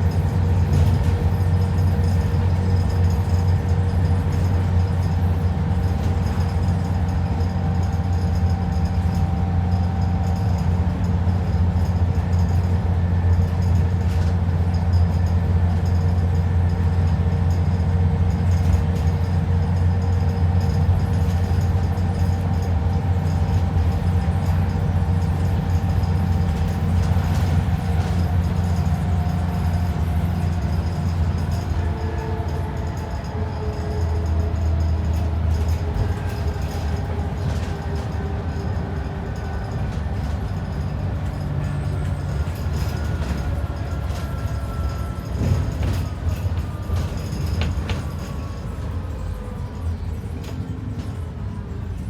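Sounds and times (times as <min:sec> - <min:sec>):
bus diesel engine drone: 0:00.0 - 0:52.0.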